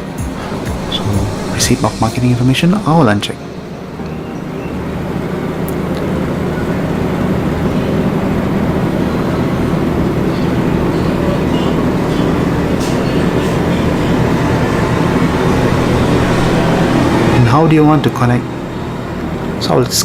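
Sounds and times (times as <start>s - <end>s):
low rumbling hum: 0.0s - 19.6s.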